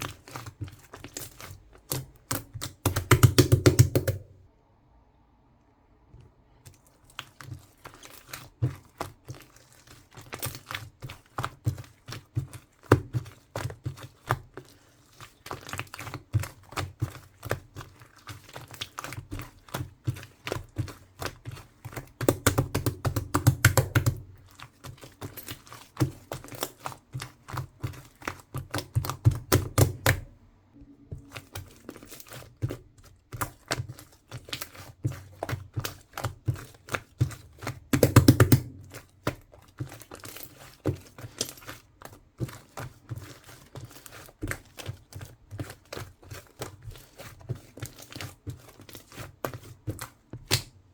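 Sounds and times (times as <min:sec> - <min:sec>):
slime kneaded by hand: 0:00.0 - 0:04.6, 0:05.8 - 0:50.9.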